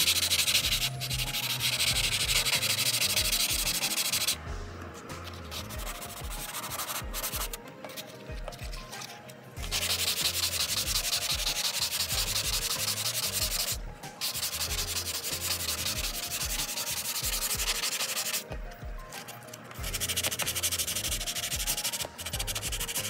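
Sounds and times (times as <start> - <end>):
sandpaper scrubbing plastic: 0.0 - 4.4, 5.2 - 23.0.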